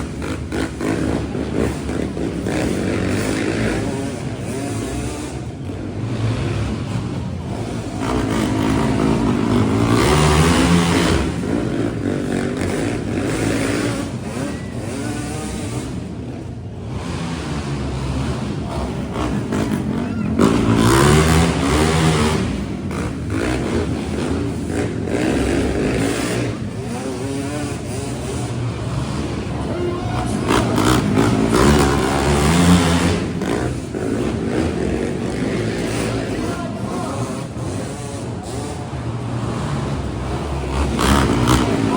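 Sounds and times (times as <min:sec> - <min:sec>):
monster truck engines revving: 0:00.0 - 0:41.9.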